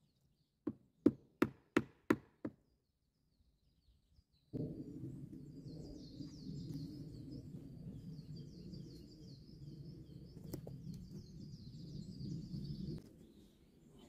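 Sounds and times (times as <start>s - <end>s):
songbirds chirping: 0.0s - 1.4s, 2.5s - 14.0s.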